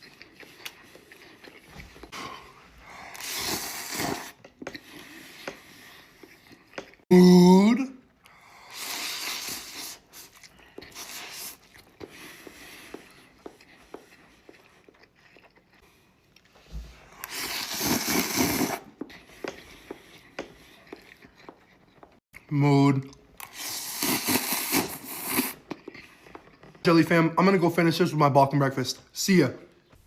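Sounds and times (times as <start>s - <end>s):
chewing noodles: 0.0s - 7.1s, 8.0s - 27.6s.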